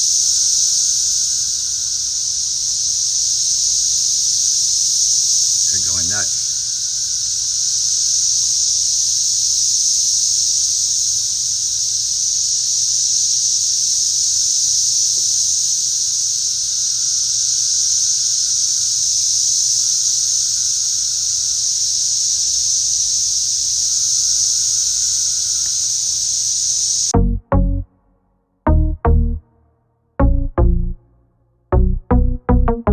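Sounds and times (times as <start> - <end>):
cicadas droning: 0.0 - 27.2.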